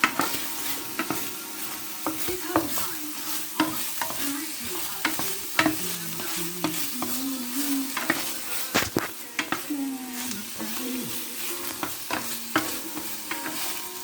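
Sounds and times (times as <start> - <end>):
chicken sizzling in a pan: 0.0 - 14.0
utensil scraping a pan: 0.0 - 14.0.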